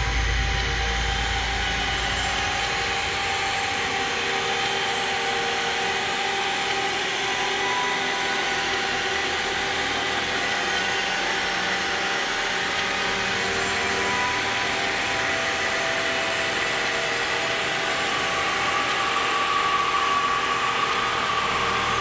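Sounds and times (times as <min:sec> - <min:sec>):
ambient electronic drone music: 0:00.0 - 0:22.0.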